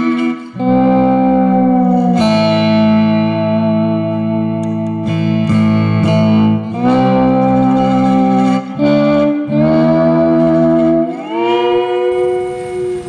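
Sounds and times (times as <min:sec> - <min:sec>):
held guitar-like notes with effects: 0:00.0 - 0:13.0.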